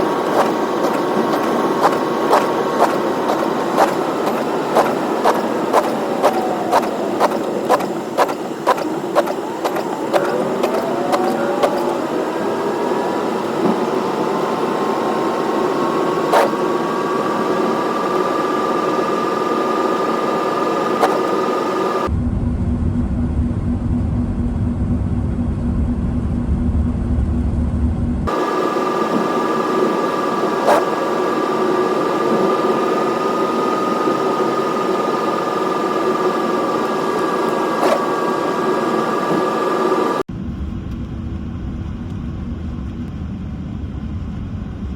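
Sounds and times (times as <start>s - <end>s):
car engine and road noise: 0.0s - 44.9s
faint whine: 0.0s - 44.9s.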